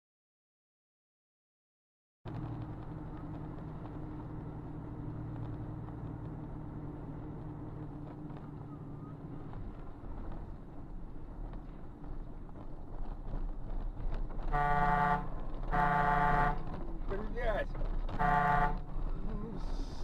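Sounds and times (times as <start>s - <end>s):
car engine running: 2.3s - 20.0s
road noise: 2.3s - 20.0s.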